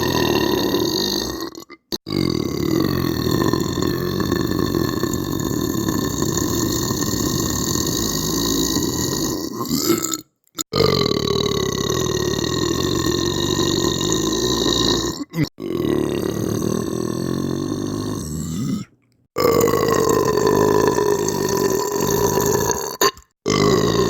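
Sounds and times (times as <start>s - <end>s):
person belching: 0.0s - 24.0s.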